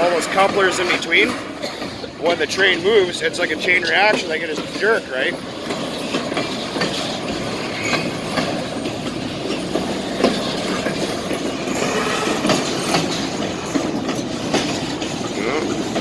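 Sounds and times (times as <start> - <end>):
train cars clacking: 0.0 - 16.0
train wheels rumbling on rails: 0.0 - 16.0.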